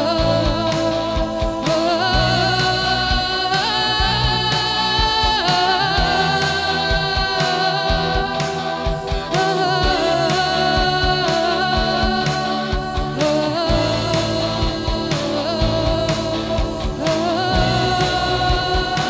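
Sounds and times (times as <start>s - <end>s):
bass: 0.0s - 19.0s
drums keeping a steady beat: 0.0s - 19.0s
electric guitar: 0.0s - 19.0s
keyboard: 0.0s - 19.0s
woman singing: 0.0s - 19.0s.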